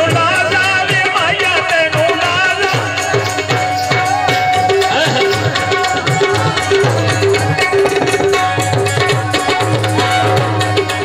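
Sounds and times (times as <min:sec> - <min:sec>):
steady drum beat: 0:00.0 - 0:11.0
ornamented folk melody: 0:00.1 - 0:11.0.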